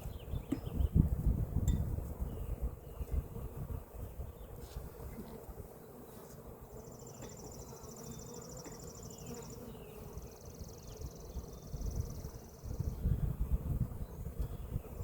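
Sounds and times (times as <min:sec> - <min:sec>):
honeybees humming: 0:00.0 - 0:15.0.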